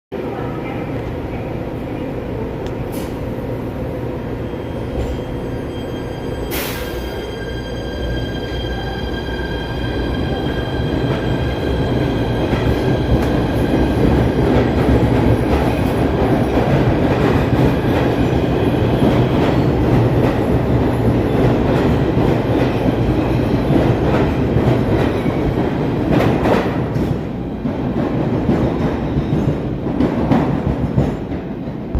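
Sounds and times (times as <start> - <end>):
wheels rumbling on rail: 0.2 - 31.9.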